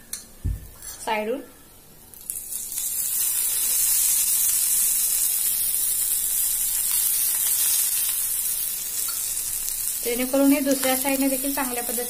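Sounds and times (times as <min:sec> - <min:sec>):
hot oil sizzling: 0:01.8 - 0:12.0.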